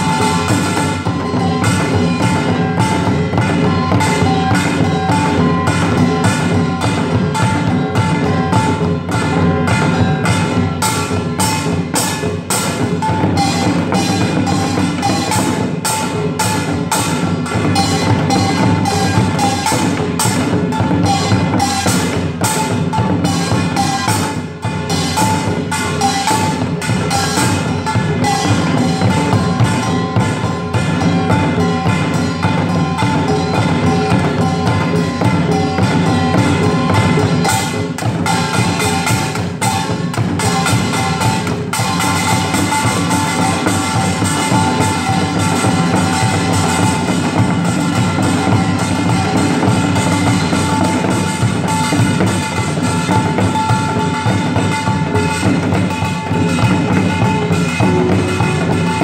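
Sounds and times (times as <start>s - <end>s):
drums: 0.0s - 59.0s
small gongs clanging: 0.0s - 59.0s.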